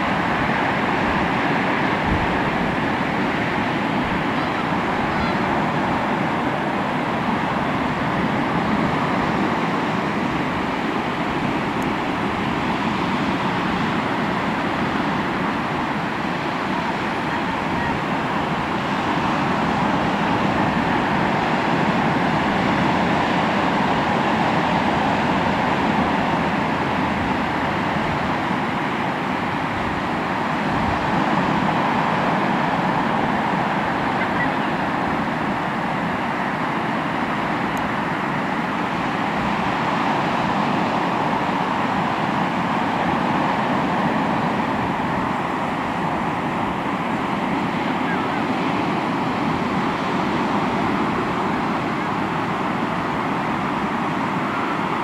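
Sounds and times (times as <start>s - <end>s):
sea waves washing onto shore: 0.0s - 55.0s.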